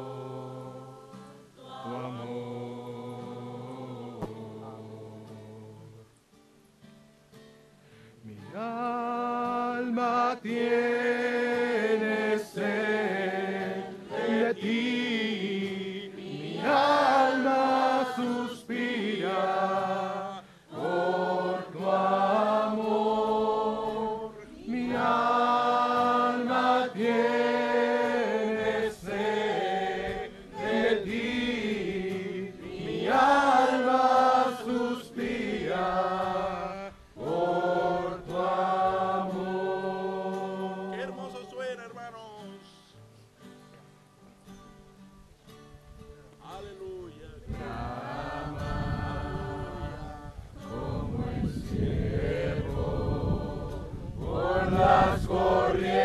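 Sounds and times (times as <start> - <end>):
group singing worship song: 0.0 - 6.2, 8.2 - 41.8, 47.3 - 56.0.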